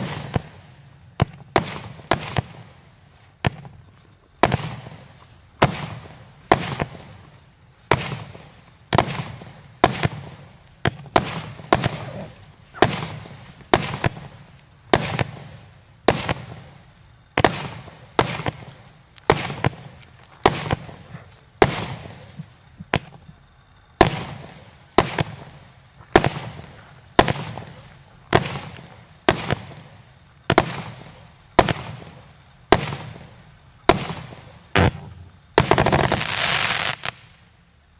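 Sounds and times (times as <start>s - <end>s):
fireworks crackle: 0.0s - 23.2s, 24.0s - 37.5s
fireworks cake bangs: 0.0s - 23.4s, 24.0s - 37.3s.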